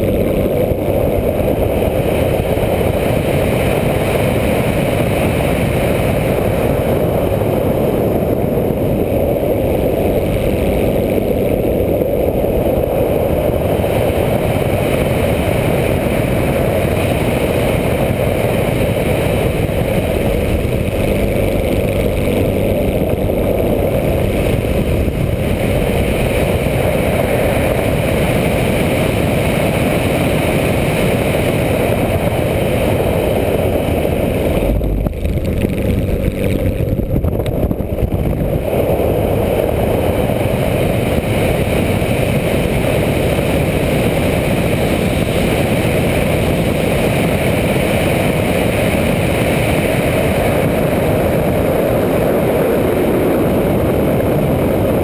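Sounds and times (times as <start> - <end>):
model plane motor and propeller: 0.0 - 55.0
wind rush: 0.0 - 55.0.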